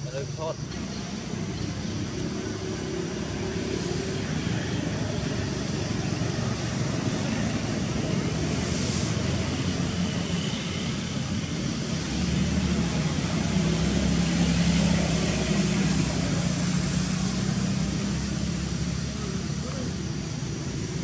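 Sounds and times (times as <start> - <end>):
outdoor noise hiss: 0.0 - 21.0.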